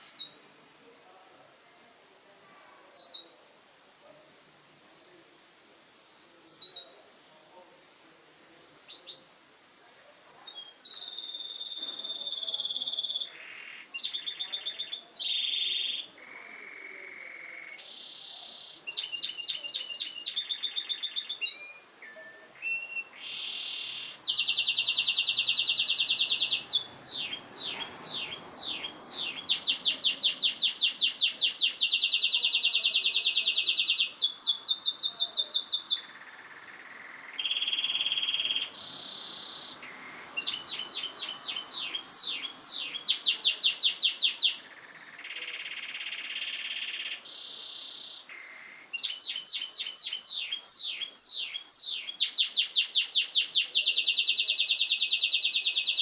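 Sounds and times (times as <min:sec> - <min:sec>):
canary singing trills: 0:00.0 - 0:00.4, 0:02.9 - 0:03.4, 0:06.4 - 0:07.0, 0:08.9 - 0:09.4, 0:10.2 - 0:56.0.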